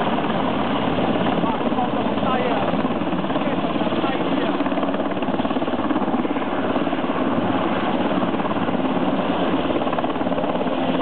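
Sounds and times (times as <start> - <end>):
helicopter engine drone: 0.0 - 11.0
helicopter rotor chopping: 0.0 - 11.0.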